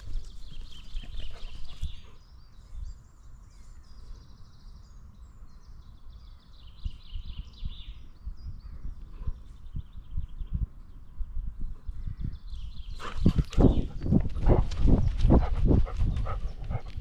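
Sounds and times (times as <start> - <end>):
songbirds chirping and trilling: 0.0 - 17.0.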